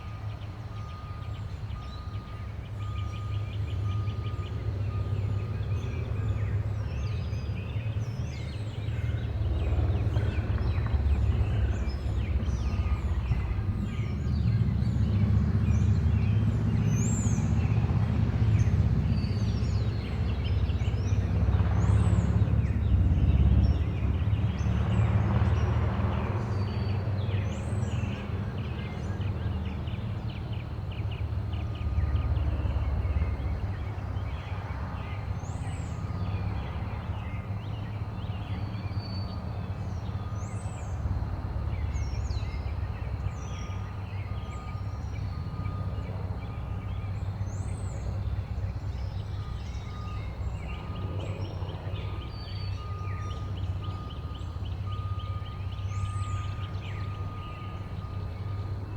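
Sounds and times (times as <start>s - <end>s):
songbirds chirping: 0.1s - 58.9s.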